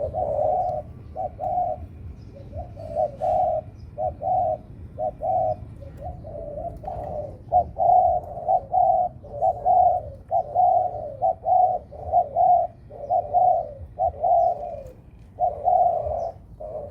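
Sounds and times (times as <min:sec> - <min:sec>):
dove cooing: 0:00.0 - 0:16.9.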